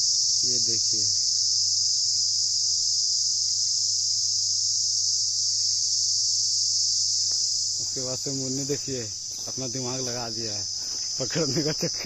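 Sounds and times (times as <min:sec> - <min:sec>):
high-pitched insects chorus: 0:00.0 - 0:12.0.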